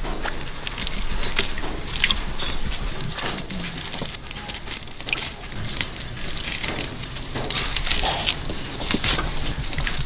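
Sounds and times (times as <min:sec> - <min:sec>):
root fibres ripping and snapping: 0:00.0 - 0:10.0.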